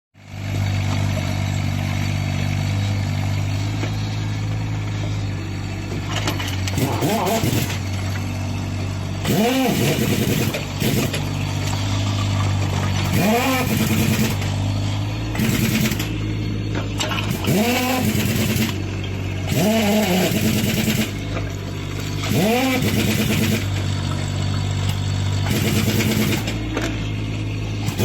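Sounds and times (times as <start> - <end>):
diesel engine running: 0.2 - 28.0
hydraulic whine: 0.4 - 28.0.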